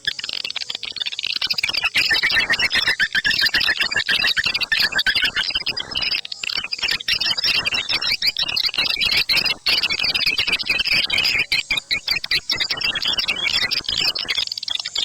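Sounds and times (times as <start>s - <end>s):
rapid high bird chirps: 0.0s - 15.0s.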